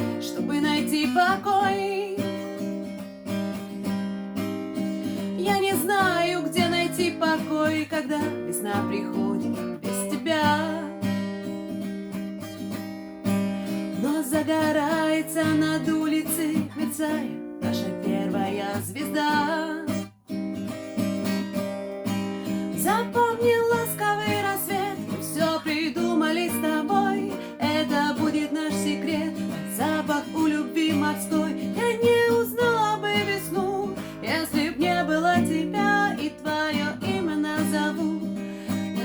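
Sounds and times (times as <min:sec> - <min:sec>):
woman singing: 0:00.0 - 0:02.7, 0:05.2 - 0:11.3, 0:13.9 - 0:20.1, 0:22.5 - 0:39.0
acoustic guitar strumming: 0:00.0 - 0:39.0.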